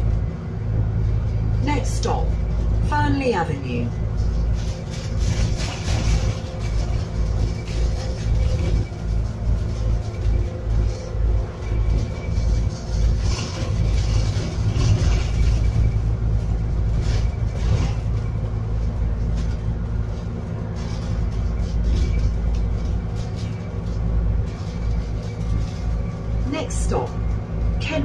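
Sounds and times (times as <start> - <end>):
bus engine drone: 0.0 - 28.0
road rumble: 0.0 - 28.0.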